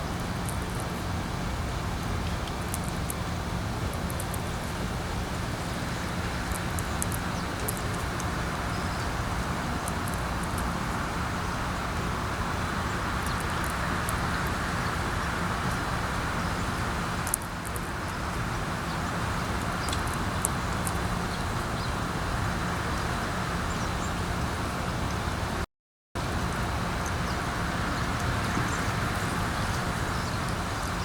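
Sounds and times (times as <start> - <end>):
wind with low rumble: 0.0 - 25.6, 26.2 - 31.0.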